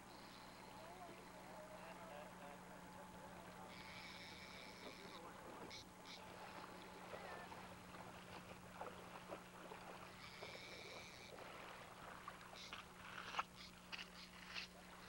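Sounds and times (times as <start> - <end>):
faint outdoor ambience: 0.0 - 15.0
steady low hum: 0.0 - 15.0.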